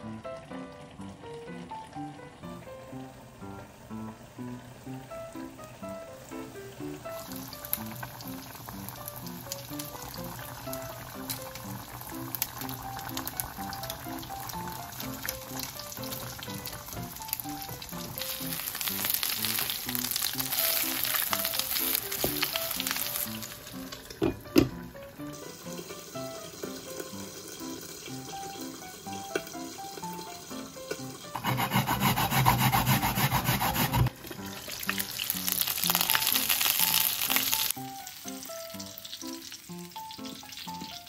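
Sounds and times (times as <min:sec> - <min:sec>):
patties sizzling in a frying pan: 0:00.0 - 0:31.4, 0:34.1 - 0:41.0
soft background music: 0:00.0 - 0:41.0.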